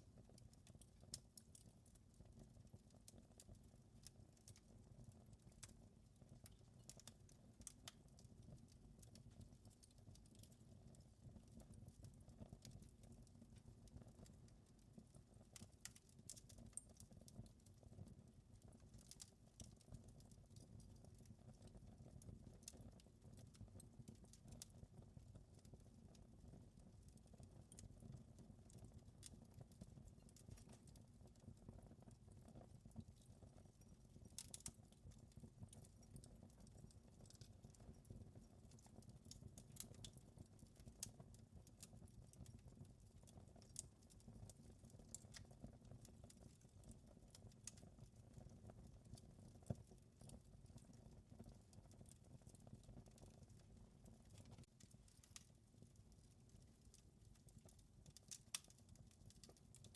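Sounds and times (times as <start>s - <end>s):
faint wood fire crackling: 0.0s - 59.9s.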